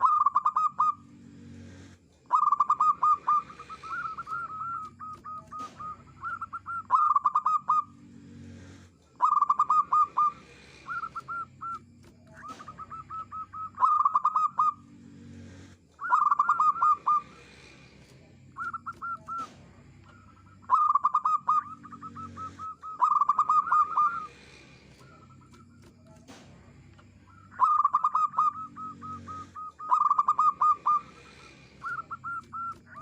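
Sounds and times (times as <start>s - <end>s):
dove cooing: 0.0s - 26.5s, 27.3s - 33.0s.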